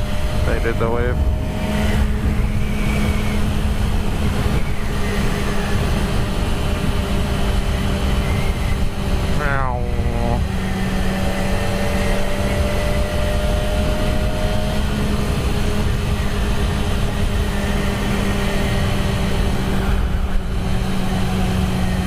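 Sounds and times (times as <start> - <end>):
motorcycle engine cruising: 0.0 - 22.0
wind on microphone: 0.0 - 22.0.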